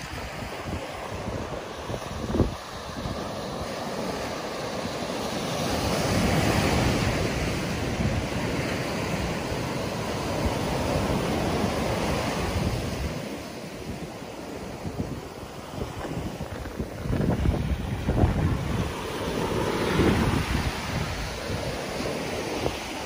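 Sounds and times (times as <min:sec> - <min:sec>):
surf washing up a beach: 0:00.0 - 0:23.0
wind buffeting microphone: 0:00.0 - 0:23.0.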